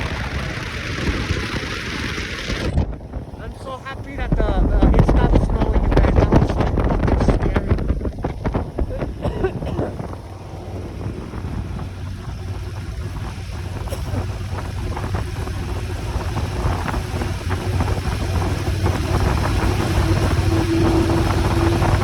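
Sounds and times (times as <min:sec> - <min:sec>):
motorcycle engine hum: 0:00.0 - 0:22.0
wind rushing on microphone: 0:00.0 - 0:22.0.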